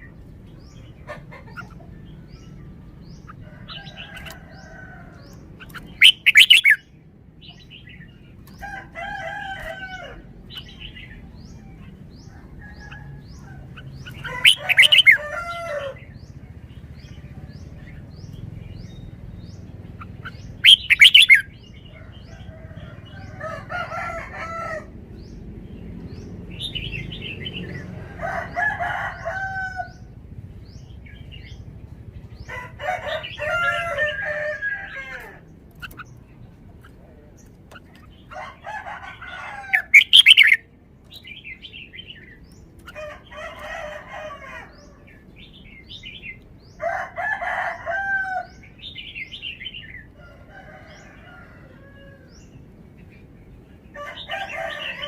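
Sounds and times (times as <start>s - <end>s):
bird singing loud phrases: 0.0s - 51.2s.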